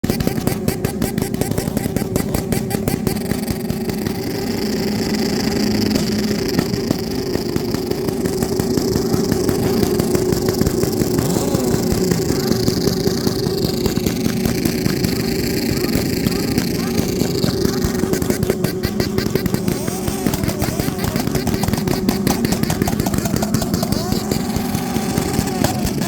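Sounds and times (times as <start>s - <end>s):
motorcycle engines running: 0.0s - 26.0s.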